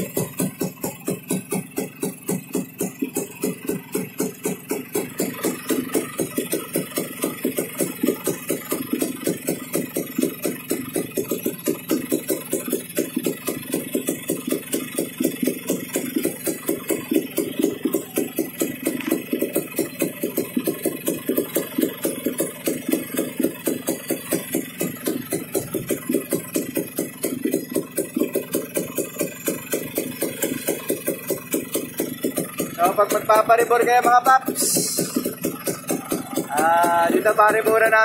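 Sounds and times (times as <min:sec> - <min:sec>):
two-stroke engine idling: 0:00.0 - 0:38.0.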